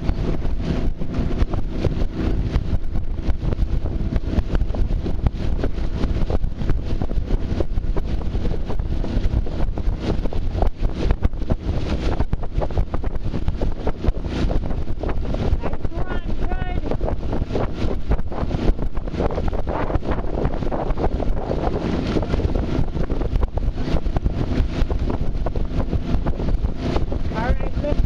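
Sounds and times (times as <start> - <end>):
boat engine droning: 0.0 - 28.0
wind buffeting microphone: 0.0 - 28.0.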